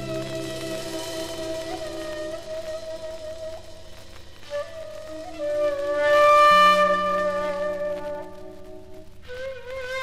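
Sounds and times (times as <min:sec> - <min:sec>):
instrumental band music: 0:00.0 - 0:10.0.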